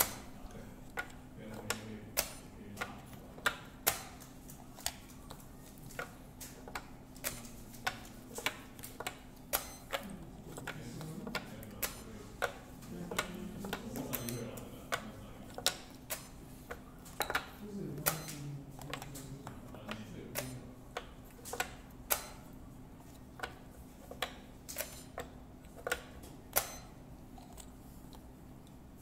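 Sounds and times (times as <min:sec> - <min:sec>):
game discs clicking on plastic board: 0:00.9 - 0:22.4, 0:23.2 - 0:26.8.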